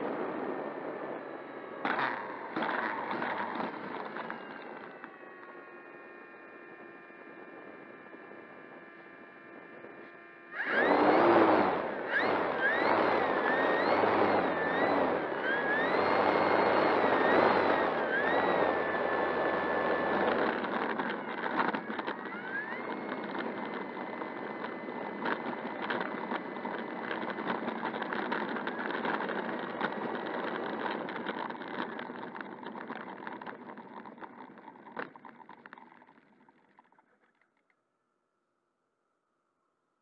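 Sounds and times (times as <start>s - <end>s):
electric motor whining: 0.0s - 35.4s
wheels rattling on rough asphalt: 0.0s - 37.7s.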